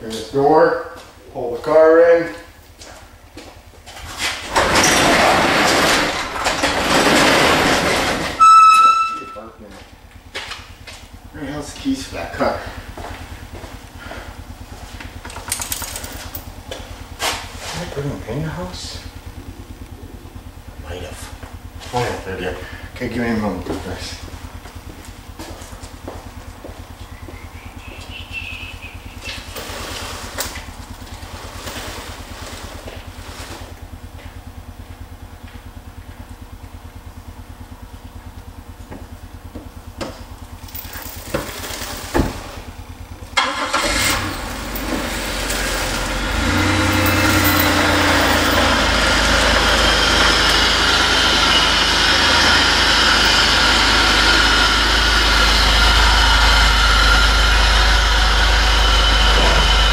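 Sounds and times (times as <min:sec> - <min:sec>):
car engine starting and running: 0:01.9 - 0:59.9.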